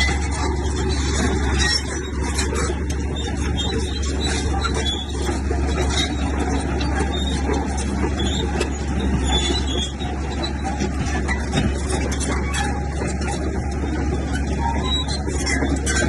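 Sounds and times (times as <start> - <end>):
bulldozer diesel engine humming: 0.0 - 16.0.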